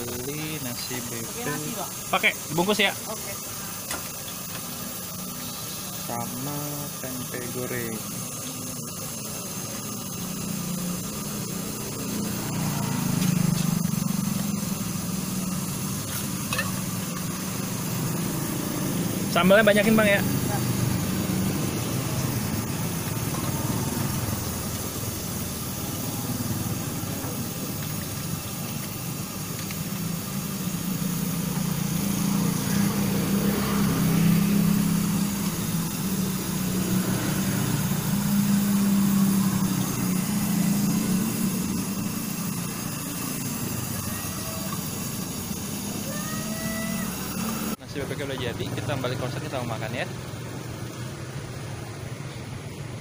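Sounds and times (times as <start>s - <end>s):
street noise: 0.0s - 53.0s.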